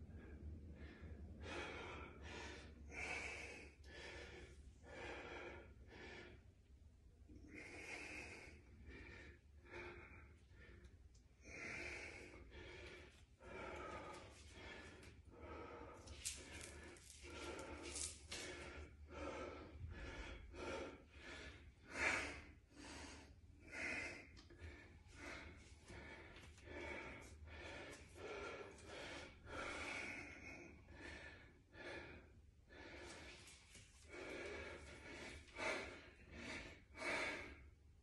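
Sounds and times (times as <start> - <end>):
man breathing hard: 0.0 - 38.0.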